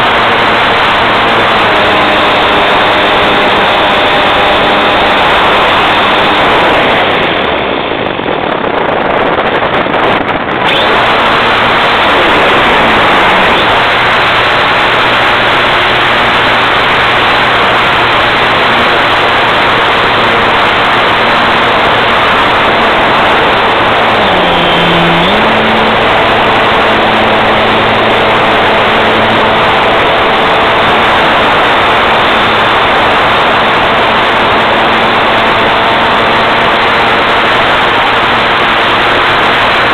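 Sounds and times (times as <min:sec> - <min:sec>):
aircraft engine droning: 0:00.0 - 0:39.9
heavy wind rush: 0:00.0 - 0:39.9.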